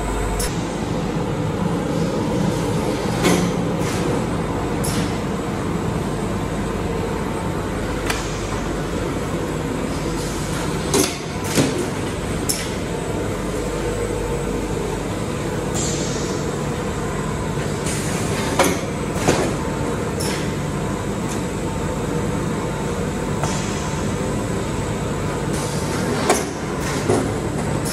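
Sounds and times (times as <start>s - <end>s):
factory machinery humming and whining: 0.0s - 27.9s.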